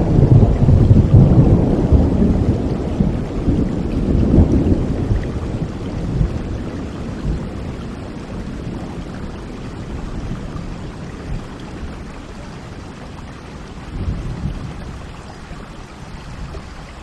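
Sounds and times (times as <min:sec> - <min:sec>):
low rumbling thunder: 0:00.0 - 0:17.0
steady rain: 0:00.0 - 0:17.0.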